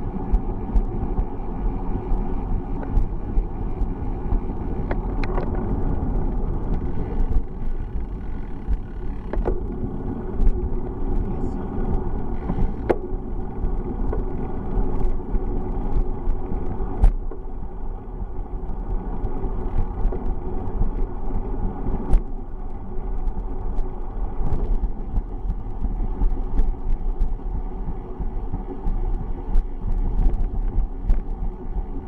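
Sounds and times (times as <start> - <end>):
bicycle ride rumble: 0.0 - 32.0.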